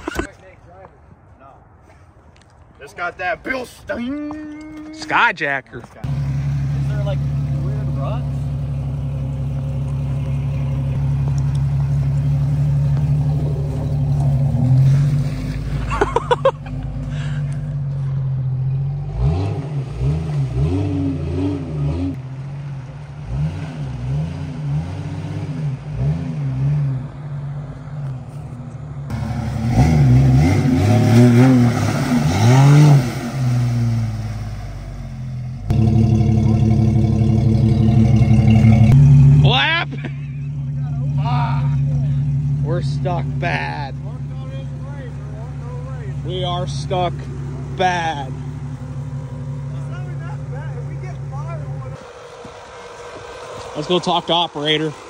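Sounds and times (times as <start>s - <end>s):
car engine revving: 6.0s - 55.0s.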